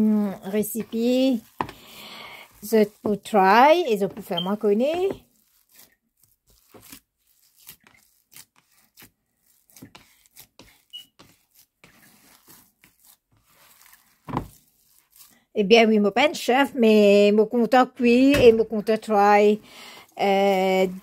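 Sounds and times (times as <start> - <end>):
hand squishing food mixture: 0.0 - 16.7, 18.6 - 21.0.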